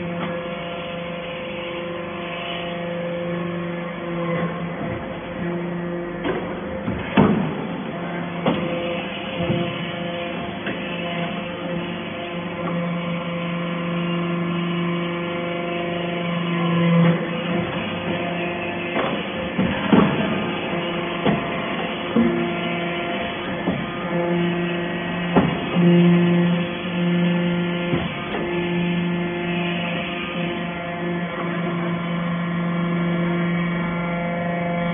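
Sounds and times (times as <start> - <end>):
hydraulic pump hum: 0.0 - 34.9.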